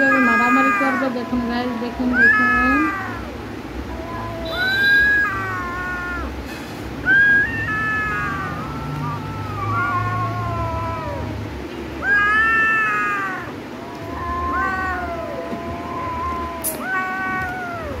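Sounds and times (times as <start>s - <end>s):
kittens meowing: 0.0s - 6.4s, 7.0s - 11.4s, 12.0s - 18.0s.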